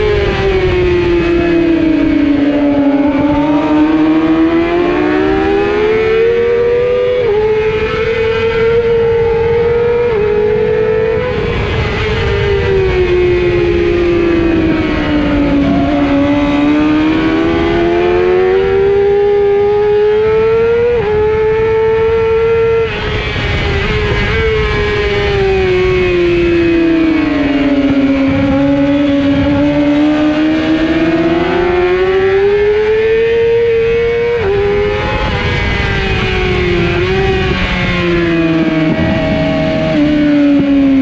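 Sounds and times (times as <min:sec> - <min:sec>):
wind rush: 0:00.0 - 0:19.6, 0:21.0 - 0:41.0
motorcycle engine at high revs: 0:00.0 - 0:41.0.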